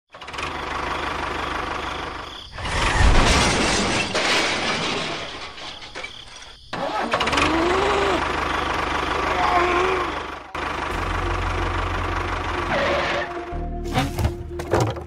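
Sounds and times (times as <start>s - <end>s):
tractor engine running: 0.1s - 3.2s, 3.9s - 15.0s.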